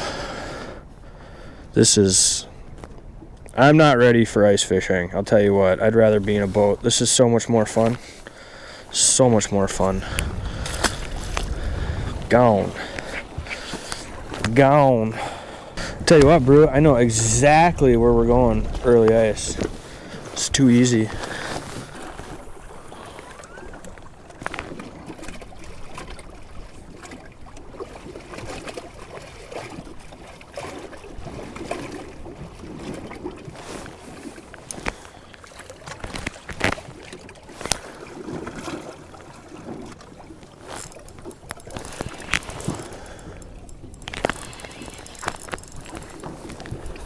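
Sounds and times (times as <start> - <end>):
lake water lapping against hull: 0.0 - 47.0.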